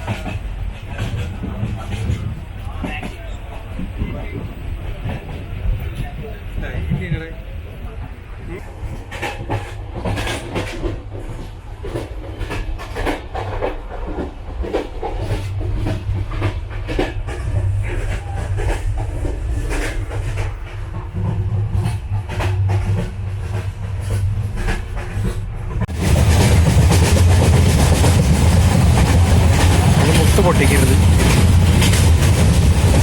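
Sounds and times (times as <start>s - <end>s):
train running inside coach: 0.0s - 33.0s.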